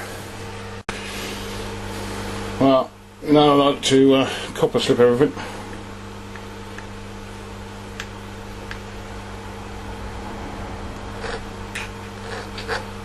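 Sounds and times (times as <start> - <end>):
fan heater humming and hissing: 0.0 - 13.0.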